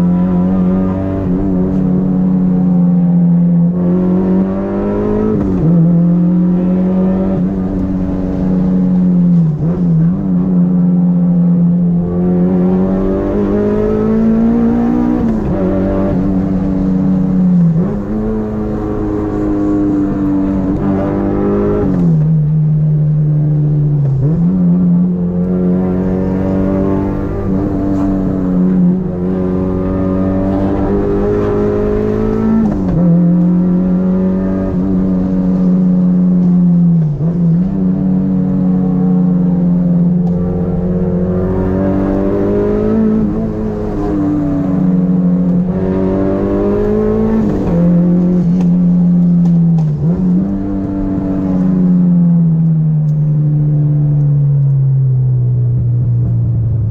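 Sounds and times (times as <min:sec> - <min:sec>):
car engine at high revs: 0:00.0 - 0:56.9.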